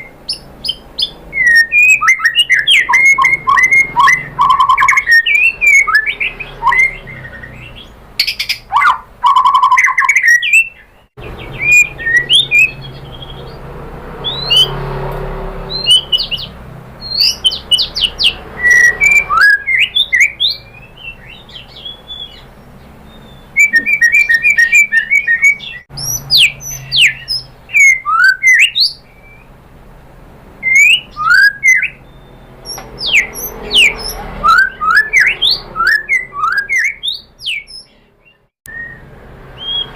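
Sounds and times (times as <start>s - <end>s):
songbird whistling and trilling: 0.0s - 13.6s, 14.2s - 14.8s, 15.7s - 29.5s, 30.6s - 39.9s.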